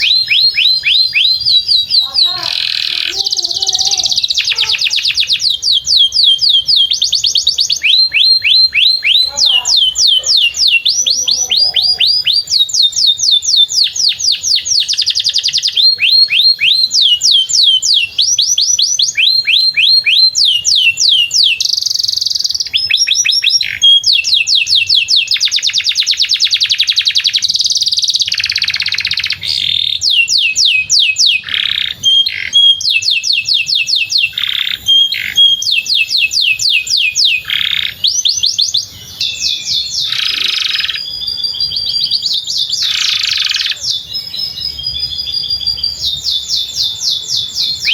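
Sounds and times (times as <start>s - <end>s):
canary singing trills: 0.0s - 47.9s.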